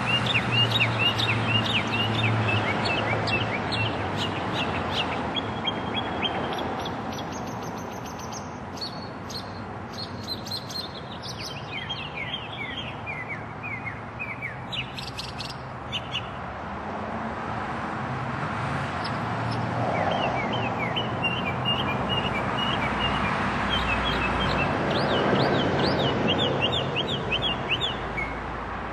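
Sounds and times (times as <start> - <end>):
songbird chirping: 0.0 - 16.5, 18.9 - 28.5.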